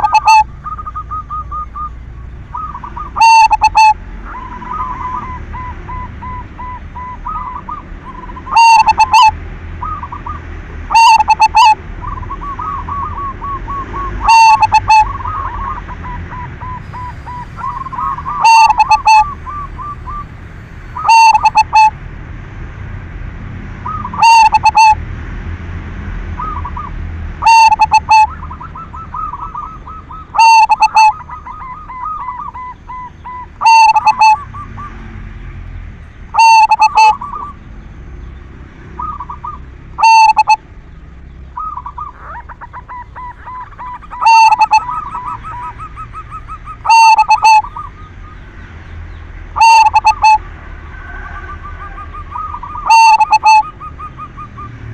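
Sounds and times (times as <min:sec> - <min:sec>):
dove cooing: 0:00.0 - 0:22.0, 0:23.8 - 0:25.0, 0:26.4 - 0:35.1, 0:36.3 - 0:37.7, 0:39.0 - 0:40.7, 0:41.5 - 0:48.6, 0:49.5 - 0:54.9.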